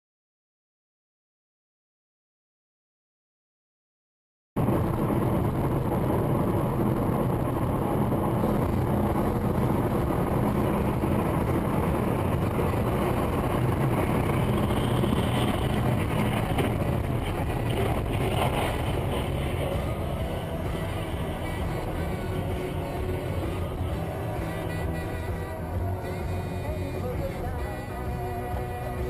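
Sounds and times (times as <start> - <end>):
car engine and road noise: 4.6 - 29.0.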